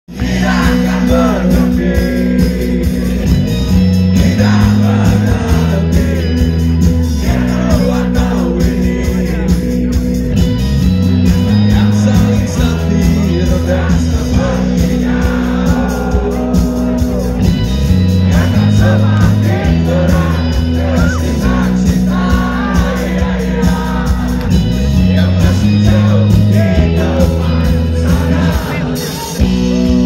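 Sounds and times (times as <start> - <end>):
person singing: 0.1 - 3.4, 4.1 - 10.2, 11.4 - 17.5, 18.1 - 30.0
rock band playing live: 0.1 - 30.0.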